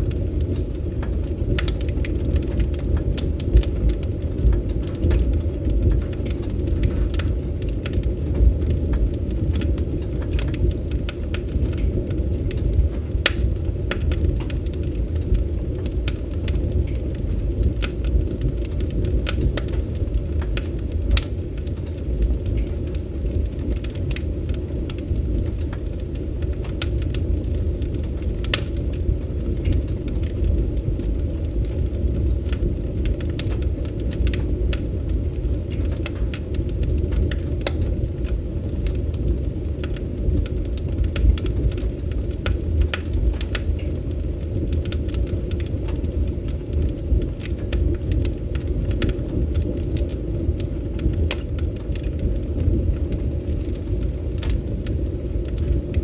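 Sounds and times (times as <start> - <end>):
low rumble of flames: 0.0 - 56.0
wood fire crackles and pops: 0.0 - 56.0.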